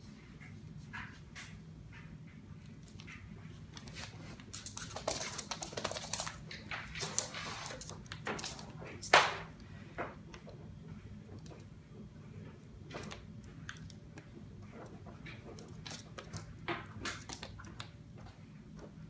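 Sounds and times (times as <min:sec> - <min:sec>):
cat scratching and skittering: 0:00.4 - 0:19.0.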